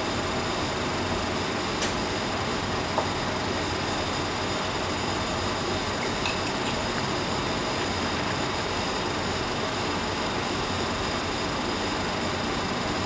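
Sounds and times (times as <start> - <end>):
kitchen machinery hum: 0.0 - 13.0.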